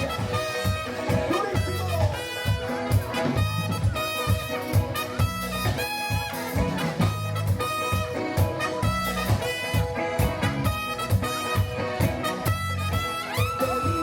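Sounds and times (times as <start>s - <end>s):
big-band swing music: 0.0s - 14.0s.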